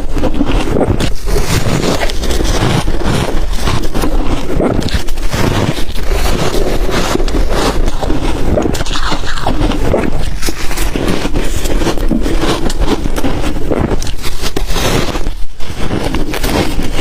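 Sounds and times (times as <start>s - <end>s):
ice crunching while chewed: 0.0s - 17.0s.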